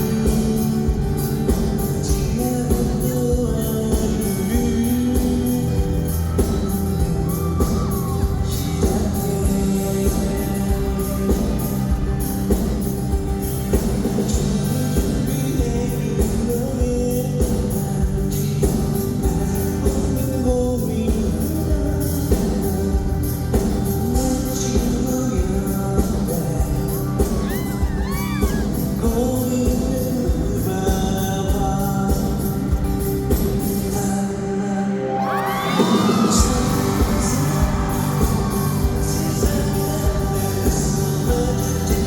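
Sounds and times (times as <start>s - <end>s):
steady drum beat: 0.0s - 34.0s, 35.5s - 42.0s
bass: 0.0s - 42.0s
guitar: 0.0s - 42.0s
person singing lead vocals: 0.0s - 42.0s.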